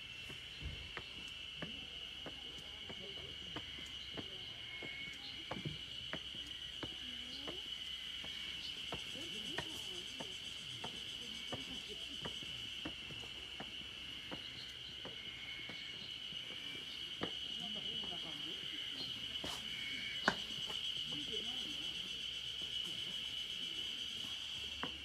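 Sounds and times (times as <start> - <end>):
footsteps on stone steps: 0.0 - 25.0
high-pitched insect drone: 0.0 - 25.0.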